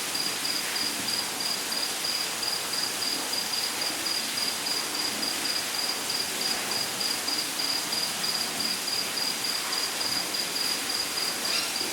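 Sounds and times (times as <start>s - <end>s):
cricket chirping: 0.0s - 11.9s.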